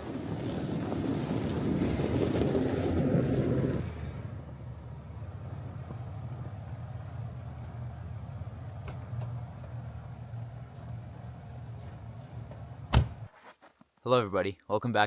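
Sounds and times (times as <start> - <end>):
vehicle engine humming: 0.0 - 13.3.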